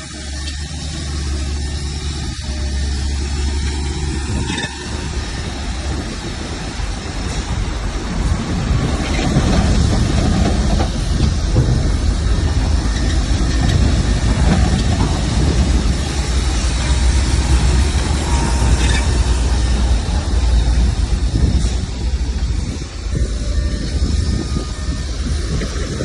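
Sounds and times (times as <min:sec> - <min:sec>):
bulldozer diesel engine rumbling: 0:00.0 - 0:26.0
metallic clatter of crawler tracks: 0:00.0 - 0:26.0.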